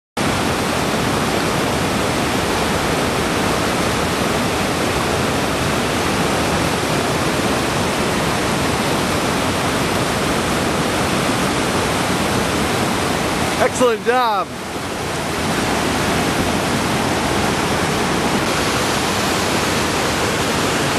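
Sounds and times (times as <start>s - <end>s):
rushing whitewater: 0.2s - 20.9s.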